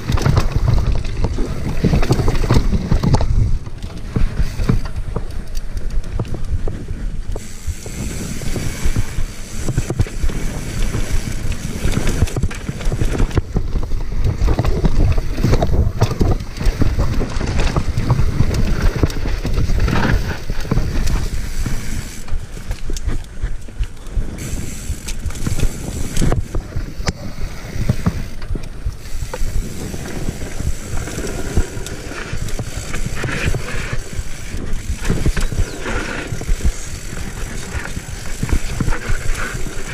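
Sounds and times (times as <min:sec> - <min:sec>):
bike clattering over bumps: 0:00.0 - 0:39.9
bike tyres crunching over dirt: 0:00.0 - 0:39.9
wind buffeting microphone: 0:00.0 - 0:39.9.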